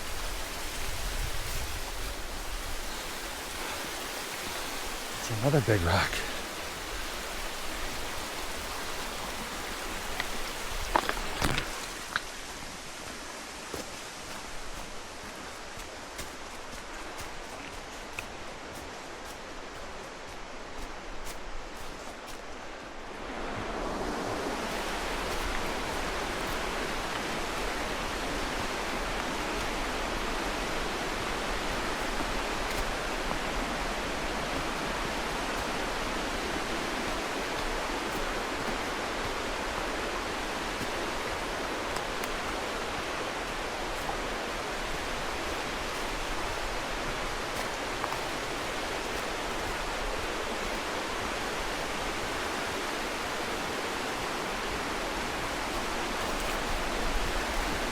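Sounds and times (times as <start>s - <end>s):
creek rushing over rocks: 0.0s - 57.9s.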